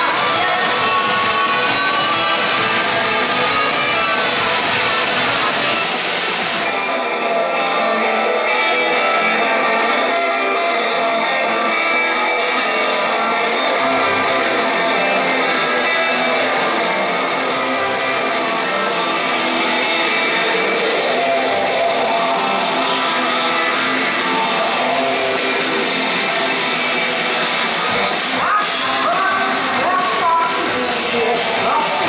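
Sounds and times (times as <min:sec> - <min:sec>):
live rock band playing: 0:00.0 - 0:07.3, 0:08.6 - 0:32.0
electric guitars: 0:00.0 - 0:32.0.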